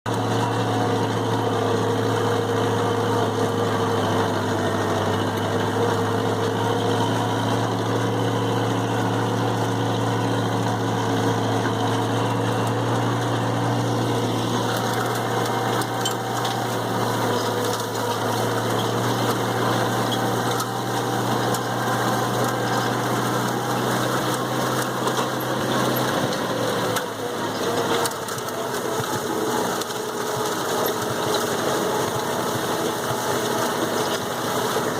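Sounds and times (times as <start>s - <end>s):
tractor engine running: 0.0s - 34.9s
hay tedder mechanical clatter: 0.1s - 34.9s.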